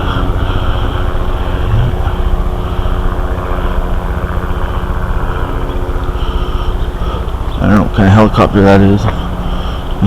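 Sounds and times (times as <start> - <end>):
faint steady hum: 0.0 - 10.0
helicopter rotor chopping: 0.0 - 10.0.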